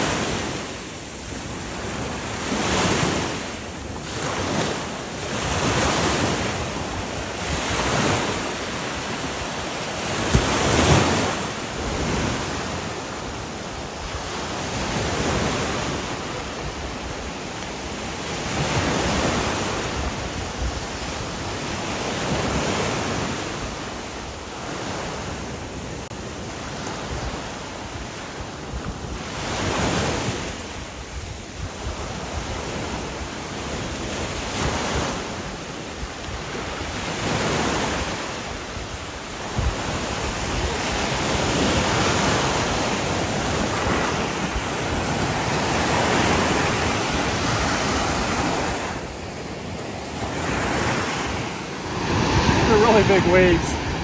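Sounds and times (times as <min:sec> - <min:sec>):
sea surf washing onto beach: 0:00.0 - 0:54.0.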